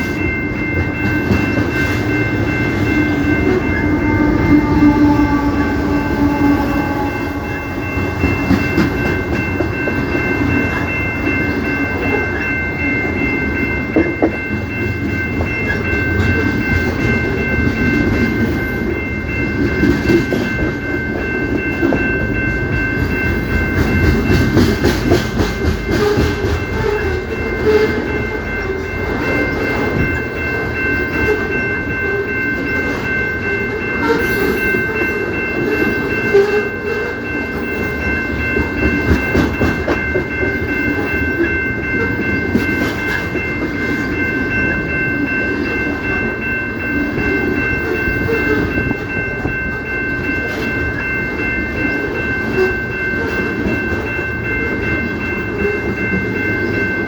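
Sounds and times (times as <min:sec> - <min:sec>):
high-pitched tones: 0:00.0 - 0:57.0
train cars rumbling past: 0:00.0 - 0:57.0.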